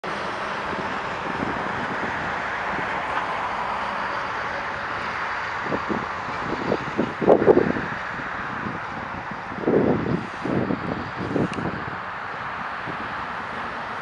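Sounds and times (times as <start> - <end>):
road traffic rushing: 0.0 - 14.0.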